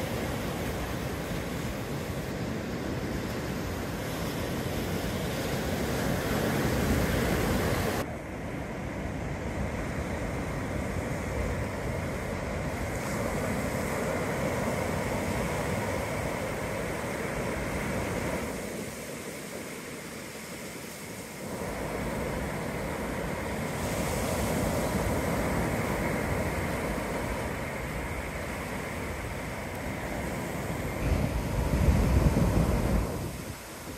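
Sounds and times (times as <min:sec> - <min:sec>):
ocean waves: 0:00.0 - 0:33.9.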